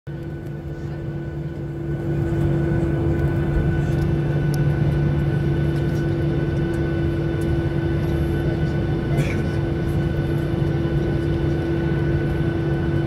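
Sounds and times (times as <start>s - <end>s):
jet engines humming and whining: 0.1s - 13.0s.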